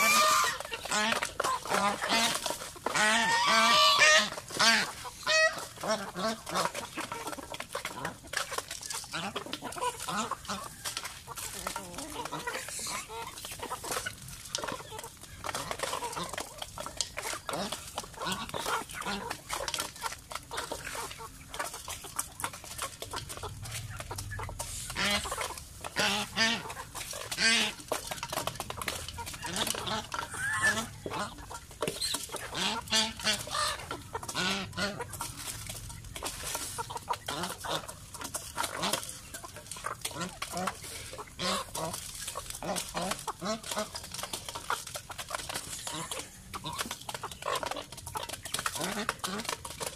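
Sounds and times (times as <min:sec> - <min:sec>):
chickens clucking and squawking: 0:00.0 - 0:49.9
geese honking: 0:00.0 - 0:49.9
loud chicken calls: 0:00.0 - 0:49.9.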